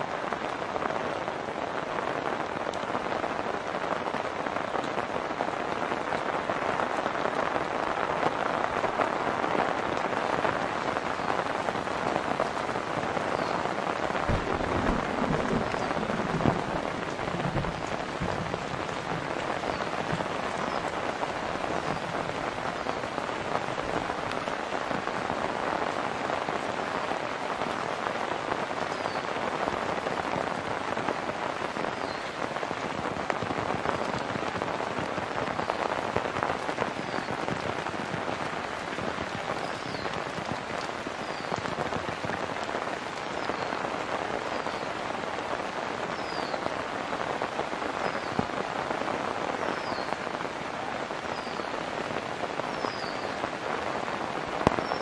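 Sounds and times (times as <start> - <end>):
rain on pavement and foliage: 0.0 - 55.0.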